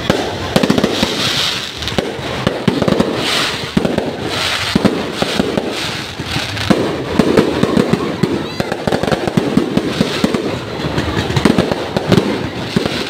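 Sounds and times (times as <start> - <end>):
fireworks bangs and pops: 0.0 - 13.0
fireworks crackle: 0.0 - 13.0.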